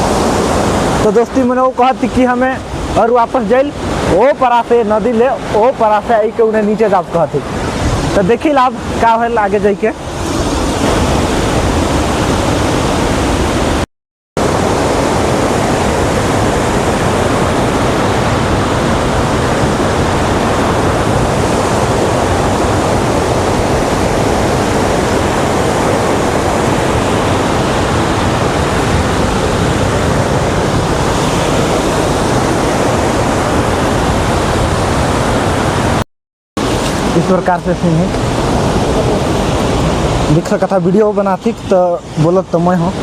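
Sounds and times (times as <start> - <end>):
waterfall rushing: 0.0 - 13.8, 14.4 - 36.0, 36.6 - 43.0.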